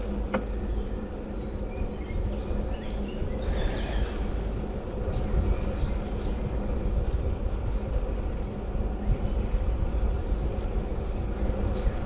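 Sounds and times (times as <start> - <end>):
road noise: 0.0 - 12.0
wind rumble on microphone: 0.0 - 12.0.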